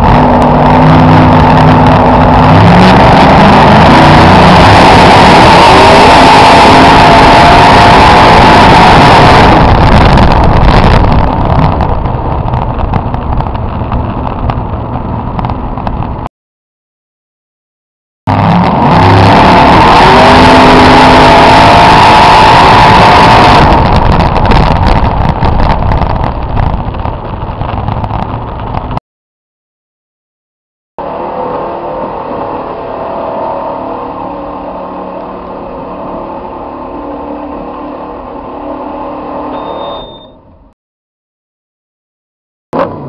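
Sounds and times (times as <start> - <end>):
truck engine at full throttle: 0.0 - 16.3, 18.3 - 29.0, 31.0 - 40.7, 42.7 - 43.0.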